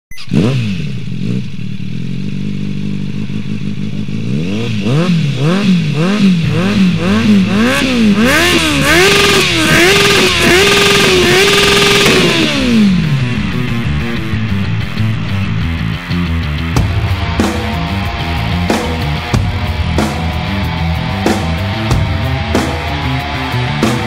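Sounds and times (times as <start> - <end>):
motorcycle engine revving: 0.1 - 24.0.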